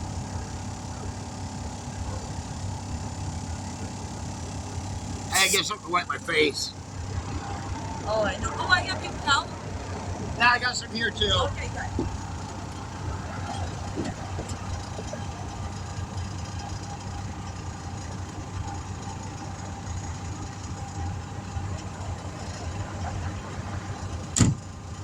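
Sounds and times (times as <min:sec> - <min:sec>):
engine idling: 0:00.0 - 0:25.0
faint constant whine: 0:00.0 - 0:25.0.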